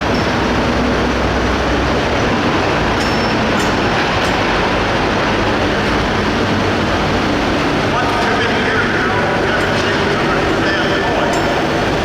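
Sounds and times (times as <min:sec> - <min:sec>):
diesel tractor engine at high revs: 0:00.0 - 0:12.0.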